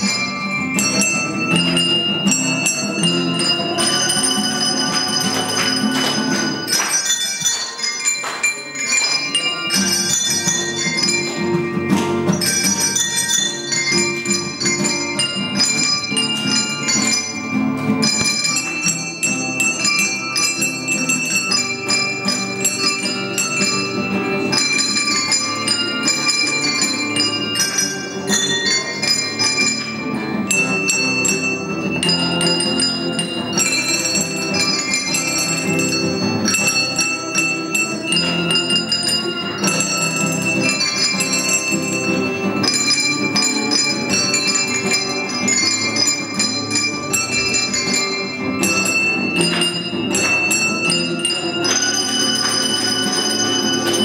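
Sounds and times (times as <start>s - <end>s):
acoustic guitar: 0.0s - 54.0s
handbell choir ringing melody: 0.0s - 54.0s.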